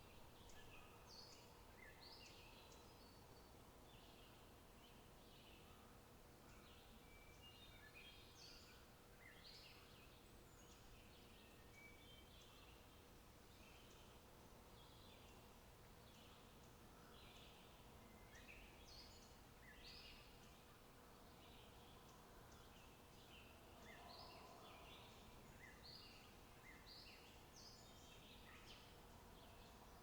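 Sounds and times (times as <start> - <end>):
low steady hiss: 0.0 - 30.0.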